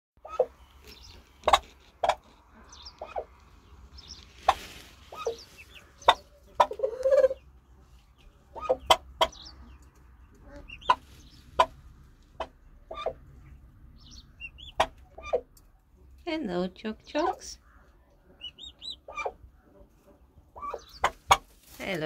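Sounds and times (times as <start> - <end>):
turkey clucking: 0.2 - 15.9, 17.2 - 21.6
chicks peeping: 0.2 - 16.2, 17.0 - 22.0.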